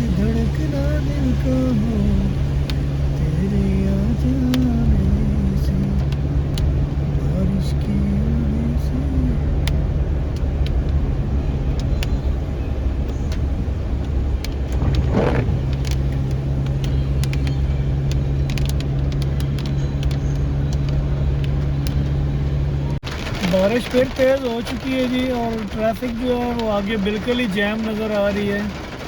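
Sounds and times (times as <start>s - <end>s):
raindrops ticking on car: 0.0s - 22.2s, 23.0s - 29.0s
constant low hum: 0.0s - 23.3s
car engine and road rumble: 0.0s - 29.0s.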